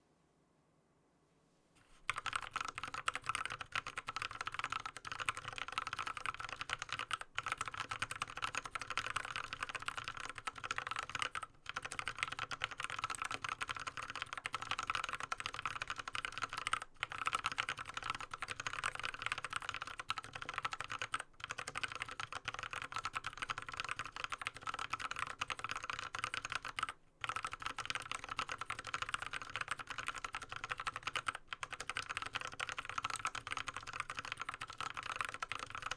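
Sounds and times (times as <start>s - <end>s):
fast mechanical keyboard typing: 2.1s - 35.9s.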